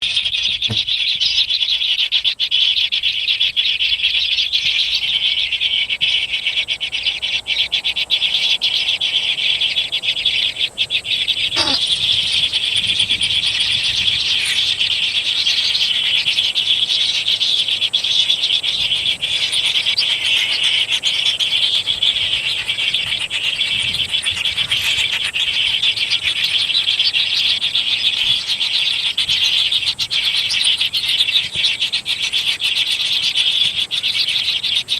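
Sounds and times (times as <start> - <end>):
frogs or insects chorus: 0.0 - 34.9.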